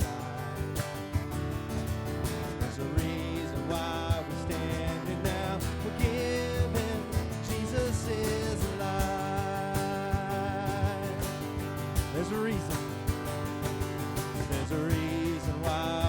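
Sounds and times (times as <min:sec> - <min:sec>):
guitar: 0:00.0 - 0:16.0
steady drum beat: 0:00.0 - 0:16.0.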